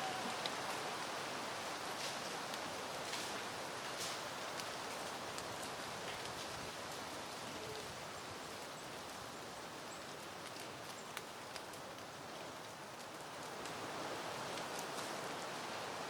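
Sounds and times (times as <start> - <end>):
wind rustling plants: 0.0 - 16.0.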